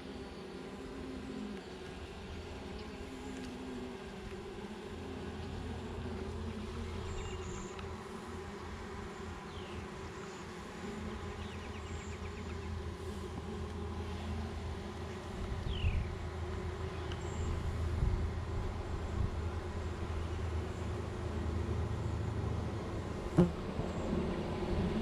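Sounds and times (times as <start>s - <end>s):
honeybees buzzing: 0.0s - 25.0s.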